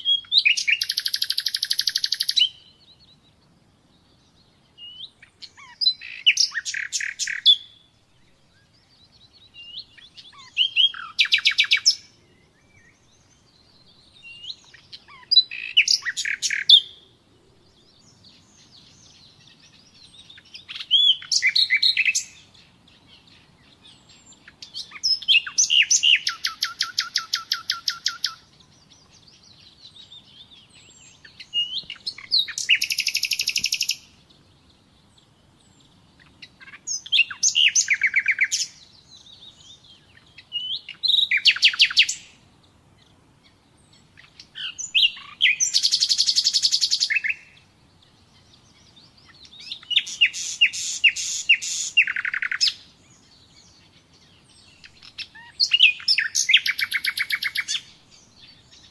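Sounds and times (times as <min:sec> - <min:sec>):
nightingale singing: 0:00.0 - 0:58.9.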